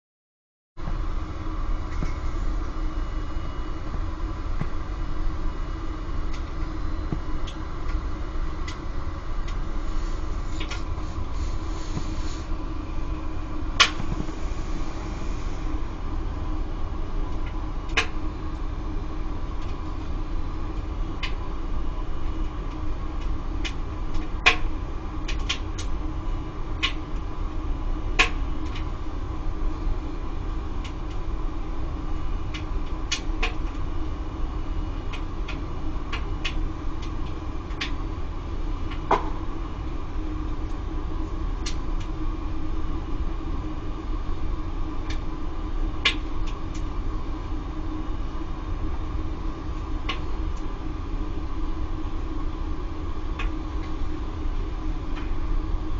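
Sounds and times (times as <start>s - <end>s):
circulation pump humming: 0.8s - 55.9s.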